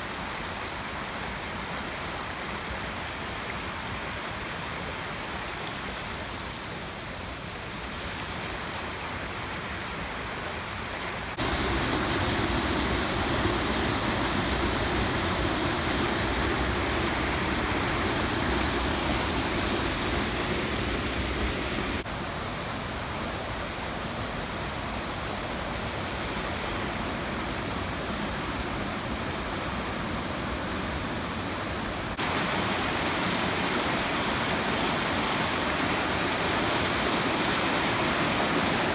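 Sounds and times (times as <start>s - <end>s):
fast-flowing river water: 0.0s - 38.9s.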